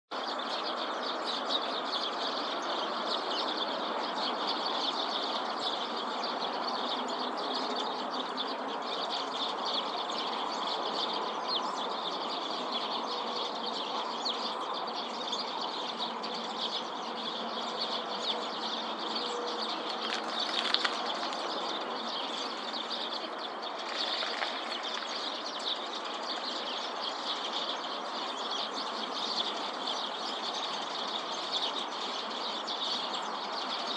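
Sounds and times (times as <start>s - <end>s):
sparrows chirping: 0.2s - 33.9s.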